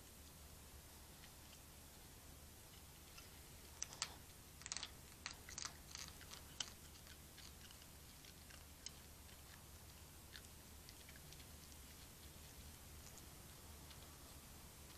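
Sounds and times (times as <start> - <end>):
animals crunching food: 2.7 - 14.9.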